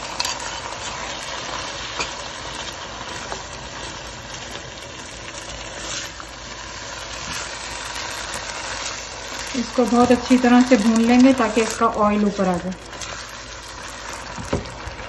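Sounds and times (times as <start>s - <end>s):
masala sizzling in a frying pan: 0.0s - 15.0s.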